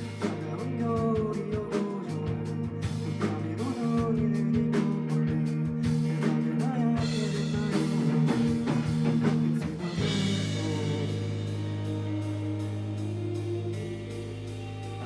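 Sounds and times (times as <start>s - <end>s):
drum kit beat: 0.0s - 15.0s
electric guitar: 0.0s - 15.0s.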